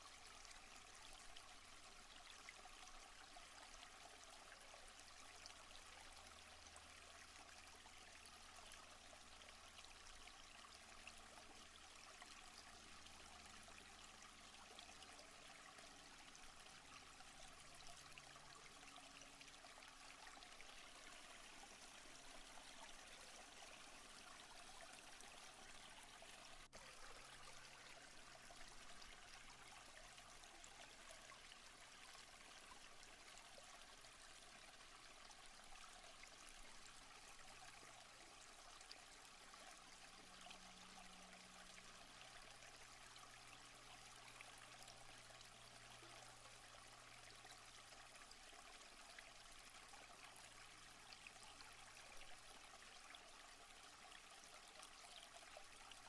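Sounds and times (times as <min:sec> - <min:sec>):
creek water flowing: 0:00.0 - 0:56.0.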